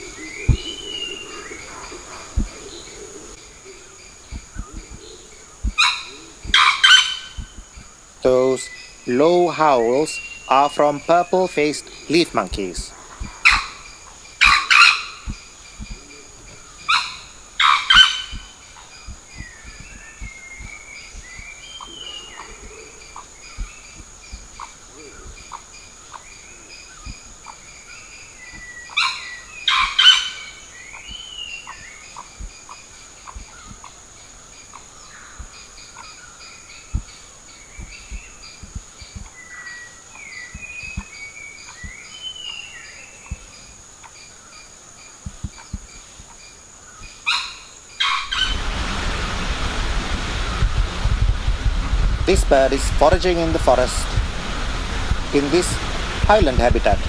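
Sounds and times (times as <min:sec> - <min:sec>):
small bird chirps: 0:00.0 - 0:48.6
high insect drone: 0:00.0 - 0:57.0.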